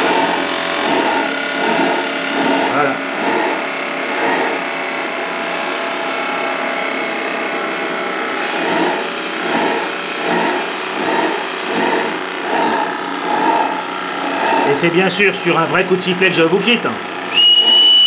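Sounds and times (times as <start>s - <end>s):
gas regulator pulsing: 0.0s - 6.2s, 7.2s - 18.0s
gas burner and steam hissing: 0.0s - 18.0s.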